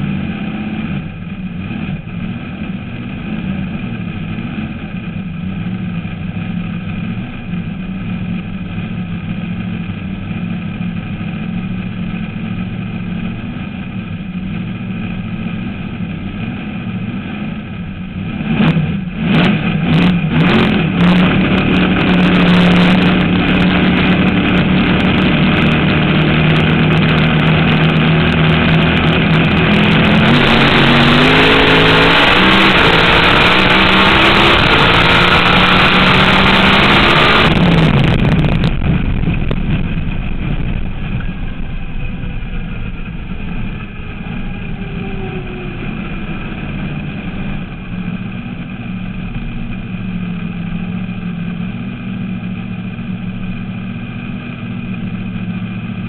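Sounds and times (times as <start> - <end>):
race car engine idling and revving: 0.0 - 56.0.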